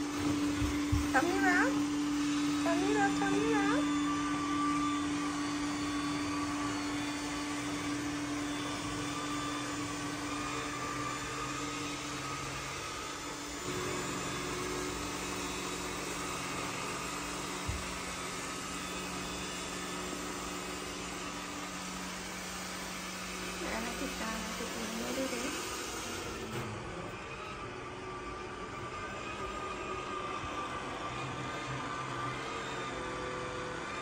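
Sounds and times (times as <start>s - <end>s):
robot vacuum motor hum: 0.0s - 34.0s.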